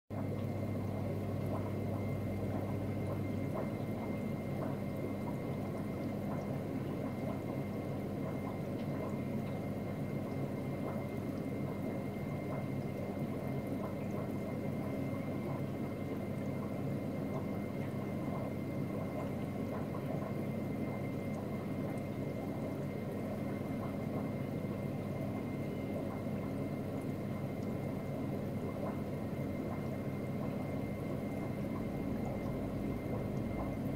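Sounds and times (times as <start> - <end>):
aquarium water circulating: 0.1 - 33.9
constant hum: 0.1 - 33.9.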